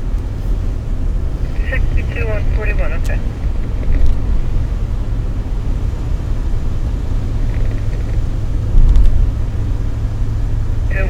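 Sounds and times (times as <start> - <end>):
car driving heard from inside: 0.0 - 11.0.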